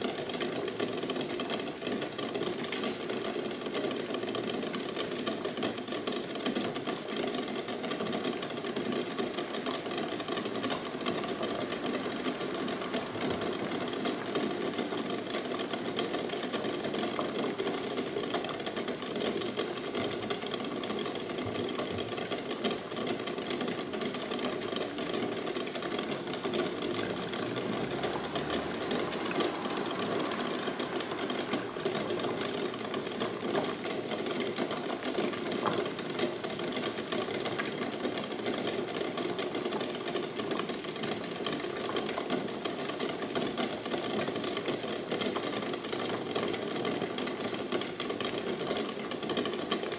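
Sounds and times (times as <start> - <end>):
eggs rattling in a pot: 0.0 - 49.9
water boiling in a pot: 0.0 - 49.9.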